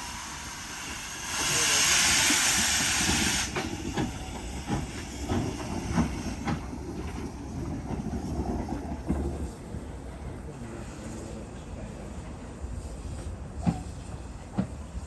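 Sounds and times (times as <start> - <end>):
locomotive steam hiss: 0.0 - 15.0.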